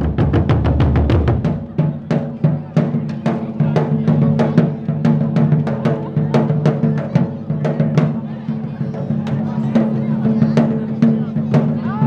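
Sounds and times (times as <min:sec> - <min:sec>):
drums beaten in fast rhythm: 0:00.0 - 0:12.0.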